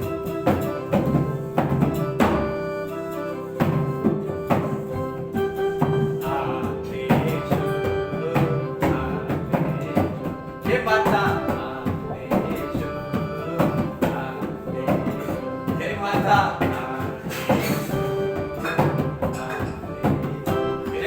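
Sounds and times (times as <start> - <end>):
dholak drum rhythm: 0.0 - 21.0
electronic keyboard melody: 0.0 - 21.0.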